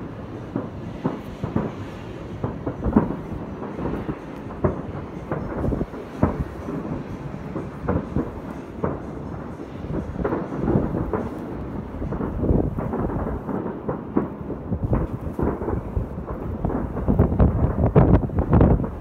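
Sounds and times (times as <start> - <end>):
continuous low rumble: 0.0 - 19.0
distant fireworks bangs: 0.0 - 19.0.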